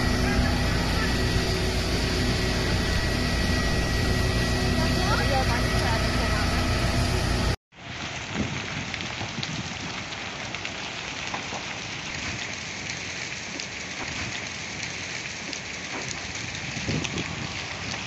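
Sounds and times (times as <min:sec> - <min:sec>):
large fire crackling: 0:00.0 - 0:18.0.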